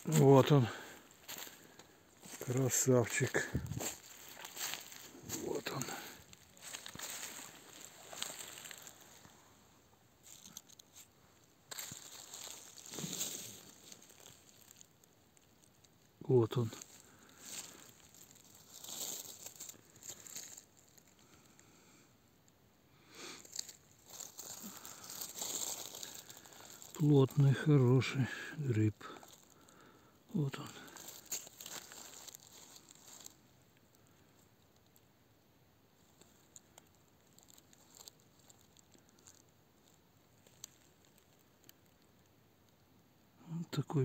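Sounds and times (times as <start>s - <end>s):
rustling of dry pine needles: 0.0s - 22.2s, 23.0s - 35.2s, 35.9s - 44.0s.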